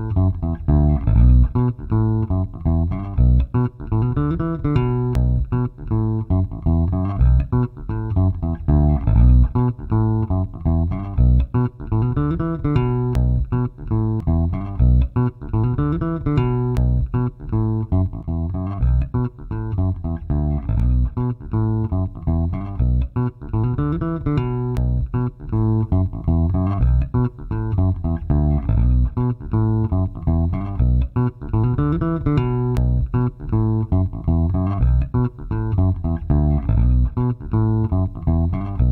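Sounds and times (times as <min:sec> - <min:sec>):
funk bass guitar loop: 0:00.0 - 0:38.9.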